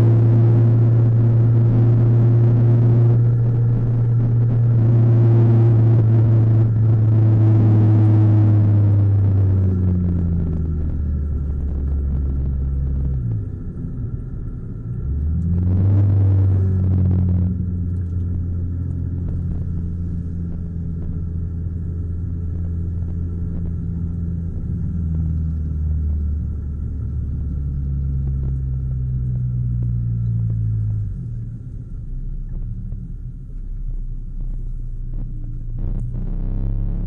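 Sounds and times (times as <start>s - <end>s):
car engine at low revs: 0.0s - 37.0s.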